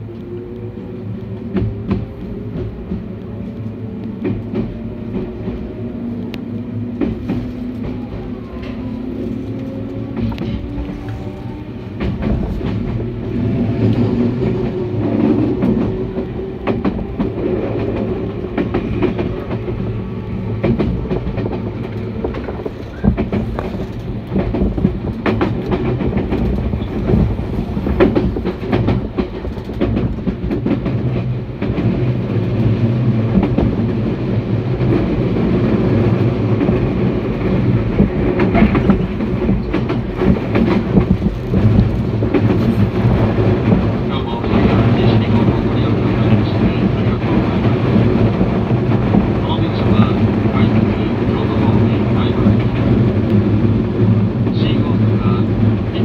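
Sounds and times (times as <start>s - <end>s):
electric train whine: 0.0s - 56.0s
train wheels clacking on rails: 1.2s - 56.0s.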